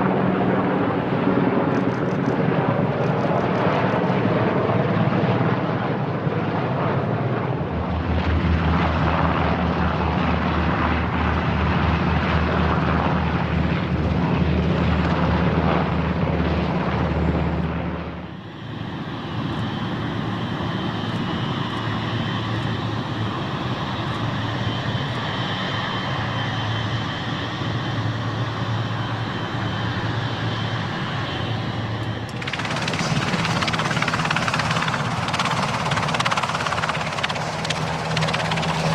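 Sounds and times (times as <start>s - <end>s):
helicopter rotor beat: 0.0s - 38.9s
jet engine high whine: 0.0s - 38.9s
loud aircraft engine: 0.0s - 38.9s.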